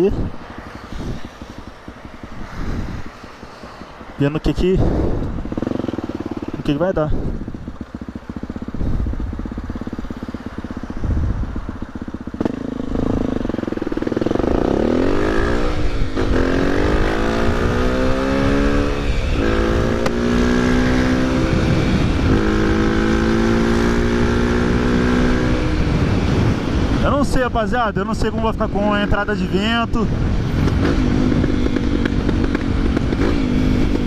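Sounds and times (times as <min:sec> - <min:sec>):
motorcycle engine accelerating: 0:00.0 - 0:27.3, 0:28.8 - 0:34.0.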